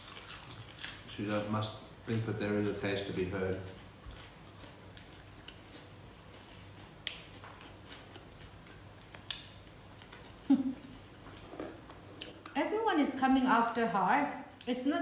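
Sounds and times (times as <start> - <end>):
people chewing: 0.0 - 12.6.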